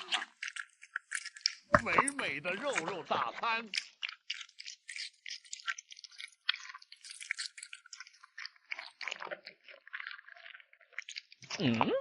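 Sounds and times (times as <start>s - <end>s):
kitten chewing meat: 0.0s - 11.7s.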